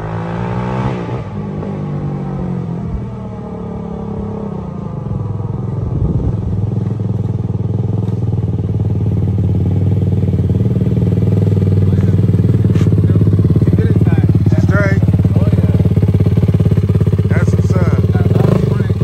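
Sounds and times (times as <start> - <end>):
quad bike engine approaching: 0.0 - 19.0.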